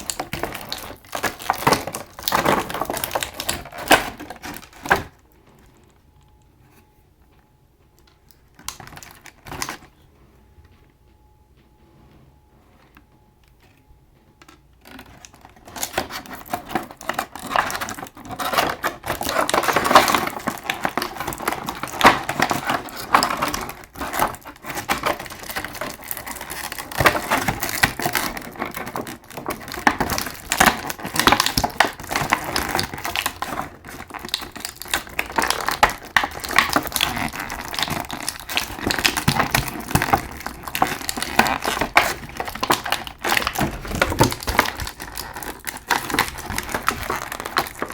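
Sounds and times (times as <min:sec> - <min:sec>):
plastic packaging crinkling: 0:00.0 - 0:06.3, 0:08.0 - 0:10.1, 0:12.9 - 0:47.9.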